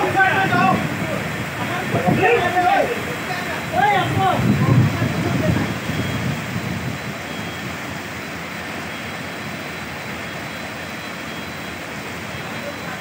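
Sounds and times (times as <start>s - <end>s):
floodwater rushing: 0.0s - 13.0s
heavy rain: 0.0s - 13.0s.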